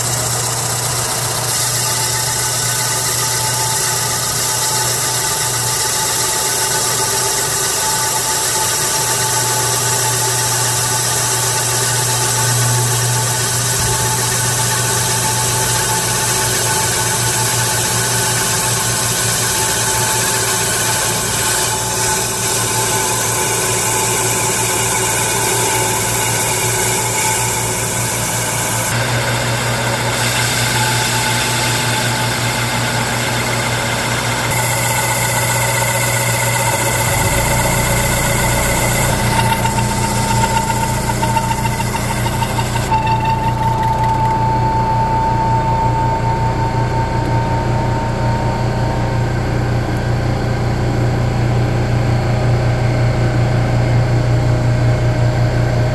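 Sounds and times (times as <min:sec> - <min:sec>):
lathe motor hum and whine: 0:00.0 - 0:55.9.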